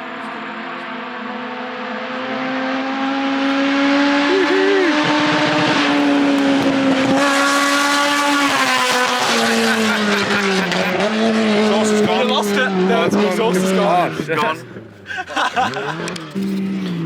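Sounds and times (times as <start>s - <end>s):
race engine running loud: 0.0s - 17.0s
road noise: 0.0s - 17.0s.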